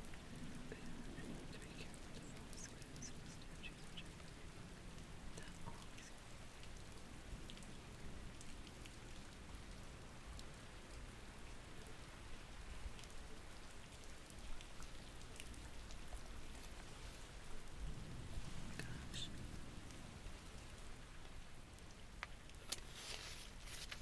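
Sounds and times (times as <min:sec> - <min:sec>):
steady rain falling: 0:00.0 - 0:24.0
ticks of raindrops: 0:00.0 - 0:24.0.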